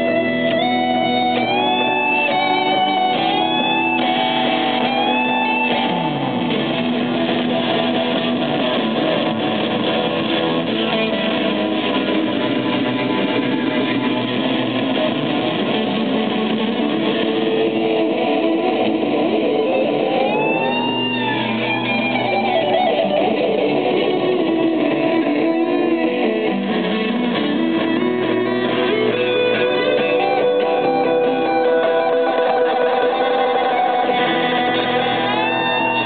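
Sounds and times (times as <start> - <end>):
electric guitar solo: 0.0 - 36.0.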